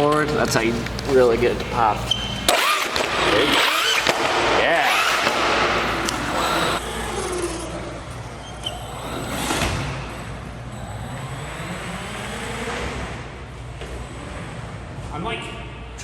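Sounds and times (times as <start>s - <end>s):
electric motor whining: 0.0s - 15.2s.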